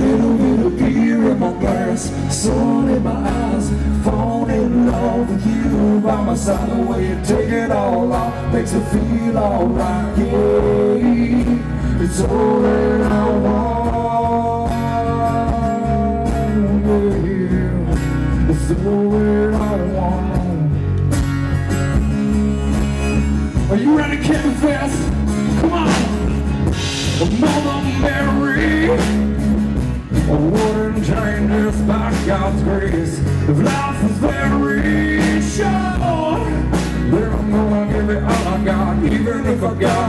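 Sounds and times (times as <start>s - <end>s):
man singing: 0.0s - 21.0s, 23.6s - 29.4s, 30.1s - 40.0s
country band playing: 0.0s - 40.0s.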